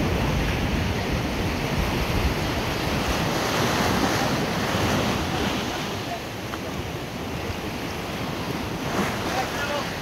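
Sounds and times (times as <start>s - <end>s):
sea surf breaking: 0.0s - 10.0s
wind buffeting microphone: 0.0s - 10.0s.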